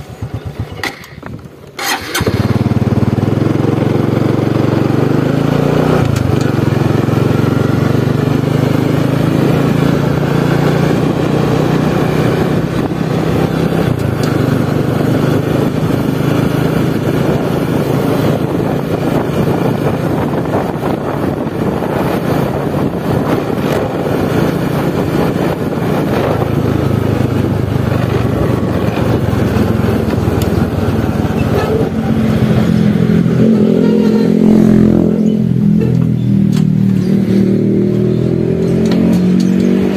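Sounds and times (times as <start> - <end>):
motor scooter engine running: 0.0 - 39.9
road noise: 0.0 - 39.9
wind: 0.0 - 39.9.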